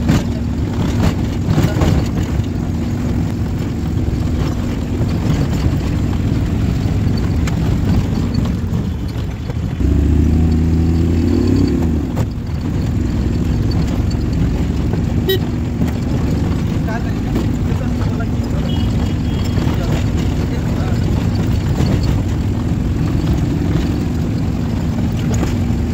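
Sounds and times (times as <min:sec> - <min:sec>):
rattling: 0:00.0 - 0:25.9
vehicle engine running: 0:00.0 - 0:25.9.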